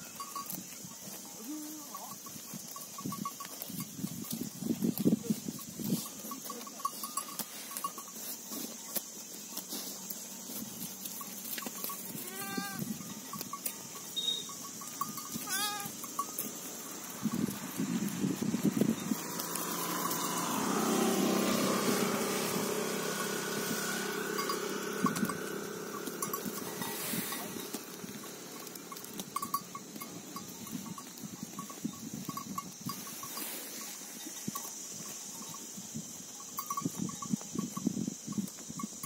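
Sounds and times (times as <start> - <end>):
livestock bells clinking: 0.0 - 39.0.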